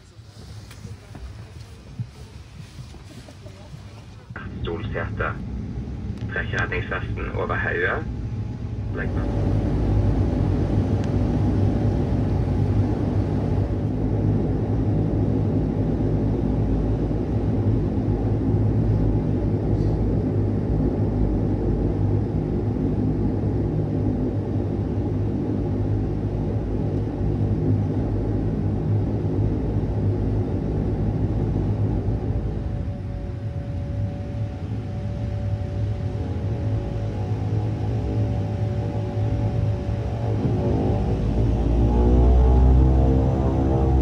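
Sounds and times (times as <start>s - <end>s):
turboprop cabin drone: 0.0s - 44.0s.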